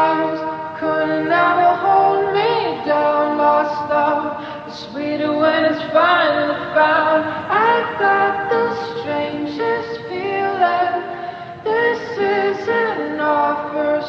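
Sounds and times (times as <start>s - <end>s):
unaccompanied singing voices: 0.0s - 14.0s
woman singing wavering notes: 0.0s - 14.0s.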